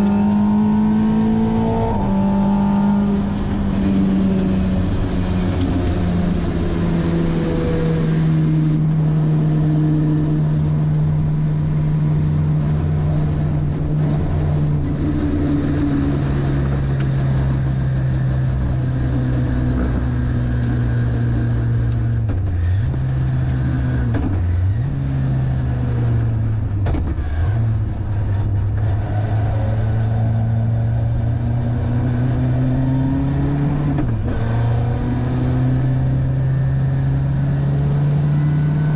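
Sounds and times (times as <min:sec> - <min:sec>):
race car engine at high revs: 0:00.0 - 0:38.9
wind and road noise: 0:00.0 - 0:38.9.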